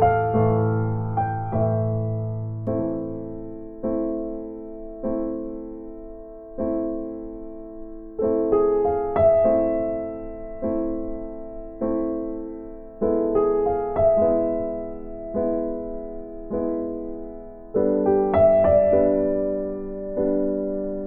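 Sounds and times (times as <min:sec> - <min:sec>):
slow soft piano chords: 0:00.0 - 0:21.0.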